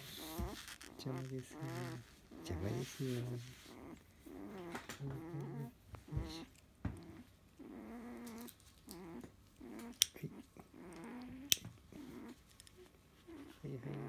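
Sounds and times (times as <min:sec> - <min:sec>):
puppy grunting and whimpering: 0:00.0 - 0:14.0.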